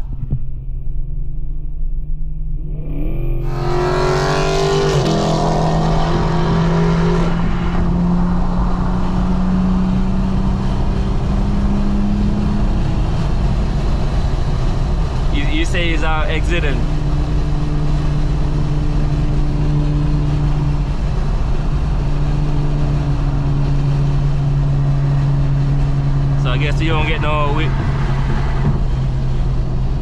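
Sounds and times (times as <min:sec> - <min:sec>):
car engine accelerating: 0:00.0 - 0:30.0
wind and road noise: 0:00.0 - 0:30.0.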